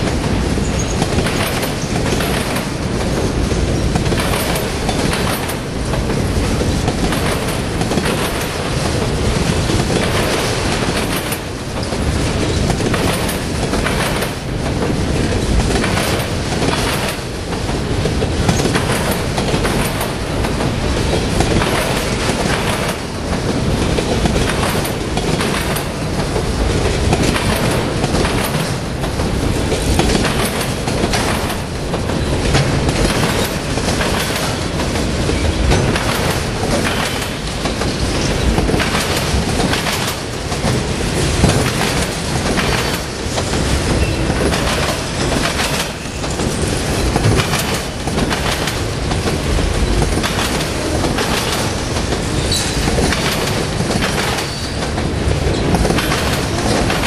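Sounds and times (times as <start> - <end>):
steel wheels rumbling on rails: 0.0 - 57.0
wheels clacking over rail joints: 0.0 - 57.0.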